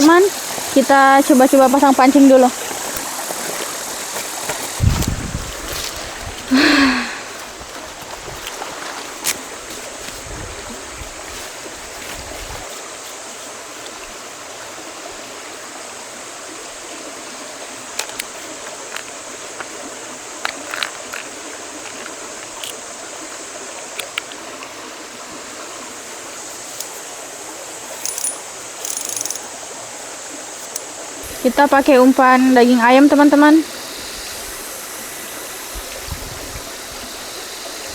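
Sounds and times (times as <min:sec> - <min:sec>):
river flowing: 0:00.0 - 0:37.9.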